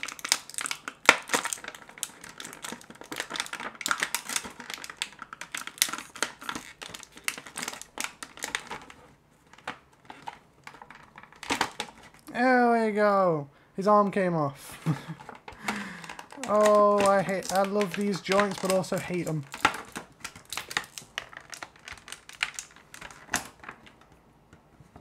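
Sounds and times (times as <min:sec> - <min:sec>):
plastic packaging crackling: 0:00.0 - 0:12.3, 0:14.8 - 0:24.2.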